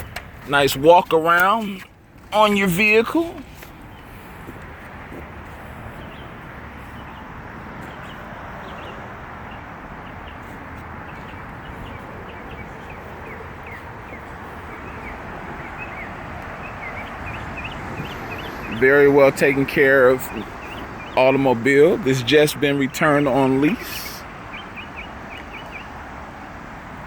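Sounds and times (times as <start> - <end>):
small birds chirping: 0.0 - 26.2.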